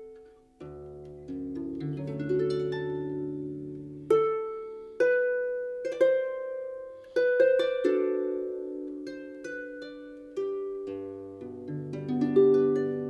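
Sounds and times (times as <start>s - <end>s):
harp-like plucked string music: 0.0s - 13.0s.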